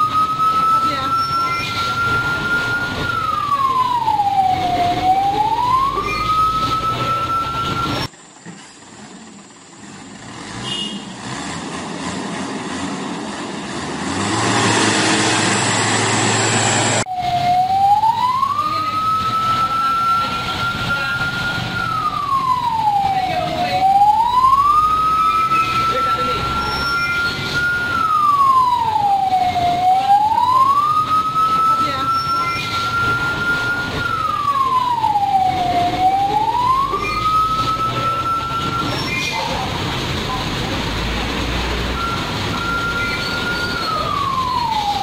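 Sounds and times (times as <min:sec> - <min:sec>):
wailing police siren: 0:00.0 - 0:08.1, 0:15.9 - 0:45.0
passing heavy trucks: 0:00.0 - 0:45.0.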